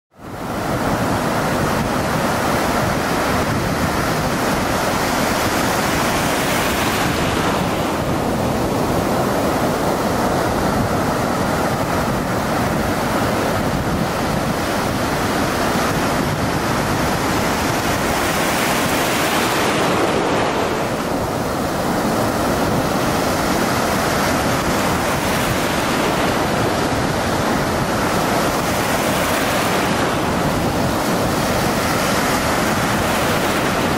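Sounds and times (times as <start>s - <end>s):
steady rushing noise: 0.2s - 33.9s.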